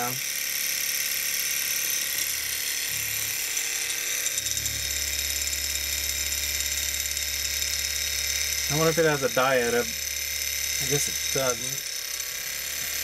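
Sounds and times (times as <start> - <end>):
stirling engine mechanical clatter: 2.0 - 13.0.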